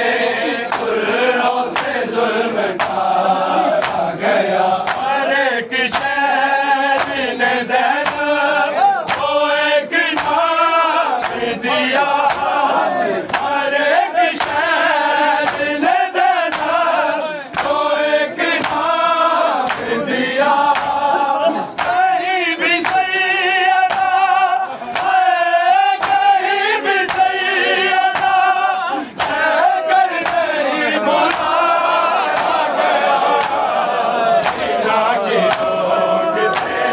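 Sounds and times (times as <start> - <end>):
men chanting together: 0.0 - 36.9.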